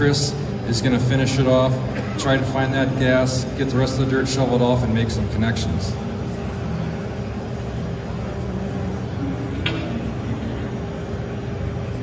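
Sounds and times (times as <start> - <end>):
low din of hall: 0.0 - 12.0.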